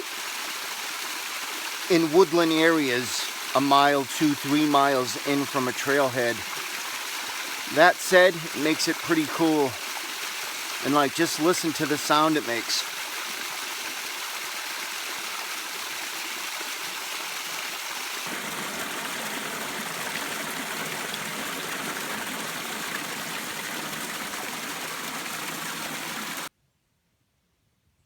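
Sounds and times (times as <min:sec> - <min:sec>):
waterfall splashing: 0:00.0 - 0:26.5.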